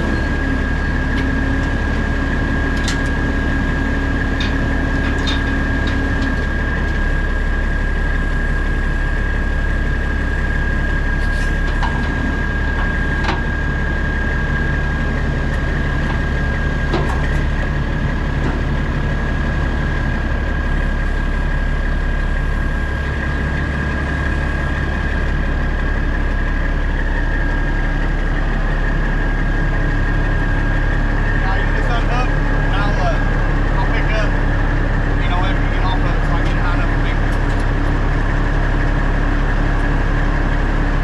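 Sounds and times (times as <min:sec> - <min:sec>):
heavy diesel engine idling: 0:00.0 - 0:41.0.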